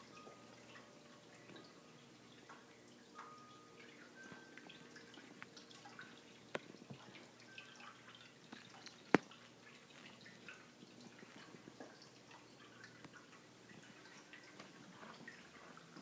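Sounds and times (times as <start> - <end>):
fountain water trickling: 0.0 - 16.0
water drips and splashes: 0.0 - 16.0.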